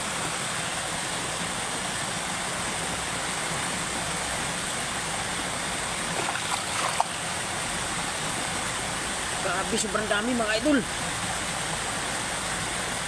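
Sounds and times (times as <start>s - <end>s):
stream water flowing: 0.0s - 13.0s
water splashes: 0.0s - 13.0s.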